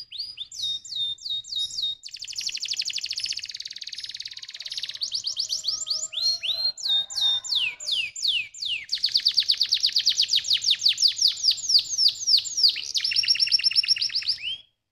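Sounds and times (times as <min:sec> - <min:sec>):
canary singing: 0:00.0 - 0:14.7.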